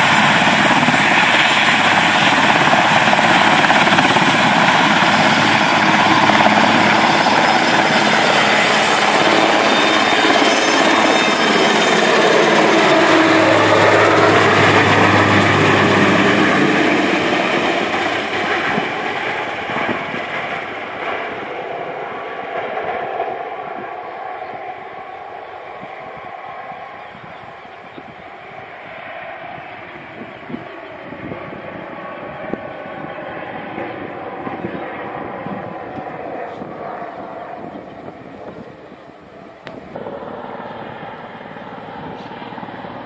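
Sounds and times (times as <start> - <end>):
helicopter rotor and turbine noise: 0.0 - 43.0
high turbine whine: 0.0 - 43.0.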